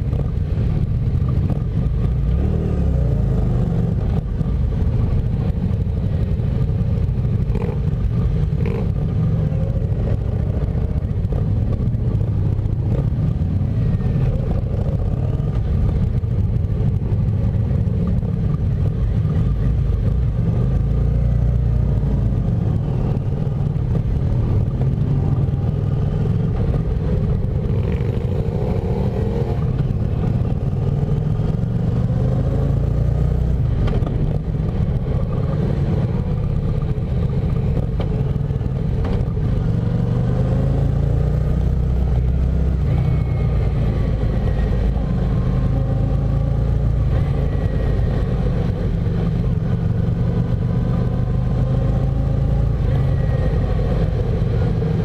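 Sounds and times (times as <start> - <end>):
motorcycle engine running: 0.0 - 55.0
other motorcycle engines: 0.0 - 55.0.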